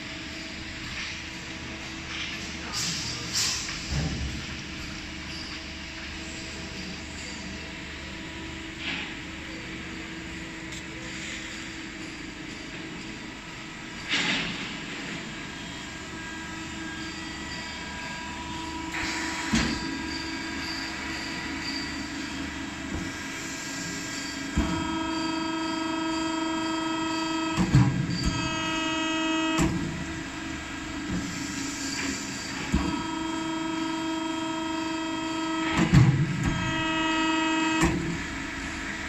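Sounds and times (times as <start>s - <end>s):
machine whine: 0.0s - 39.0s.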